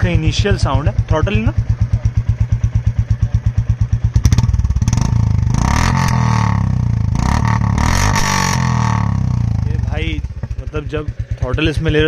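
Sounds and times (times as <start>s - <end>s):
motorcycle engine idling: 0.0s - 12.0s
motorcycle engine revving: 0.0s - 12.0s.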